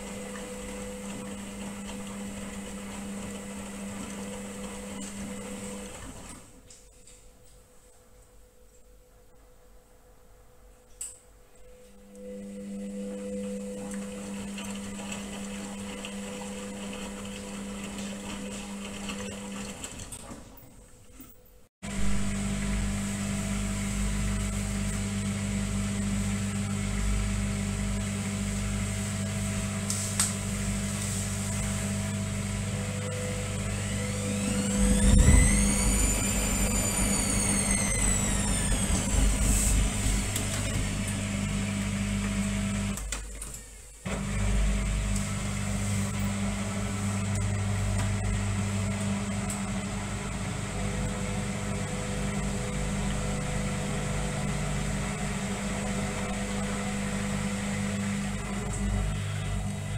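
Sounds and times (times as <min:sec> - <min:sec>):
washing machine spinning: 0:00.0 - 0:06.6, 0:12.1 - 0:21.2, 0:21.8 - 0:59.9.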